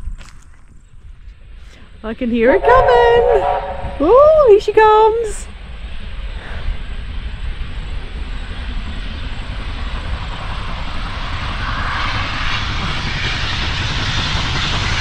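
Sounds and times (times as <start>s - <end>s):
train roar: 1.4s - 15.0s.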